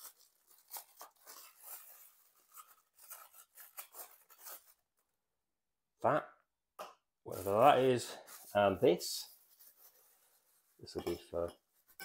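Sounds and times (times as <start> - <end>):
plastic and bubble wrap crinkling: 0.0 - 5.2, 7.3 - 12.0.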